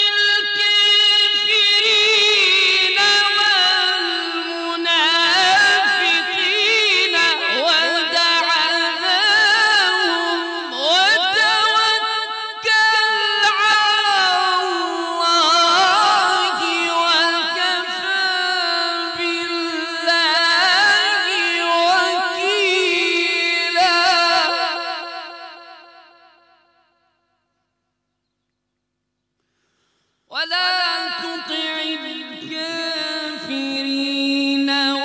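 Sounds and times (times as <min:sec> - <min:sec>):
man chanting recitation: 0:00.0 - 0:25.5, 0:30.3 - 0:35.0.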